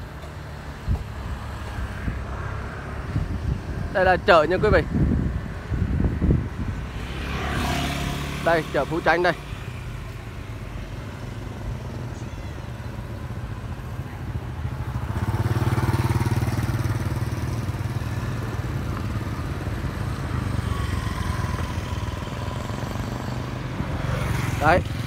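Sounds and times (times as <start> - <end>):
motorbikes passing: 0.0 - 25.0.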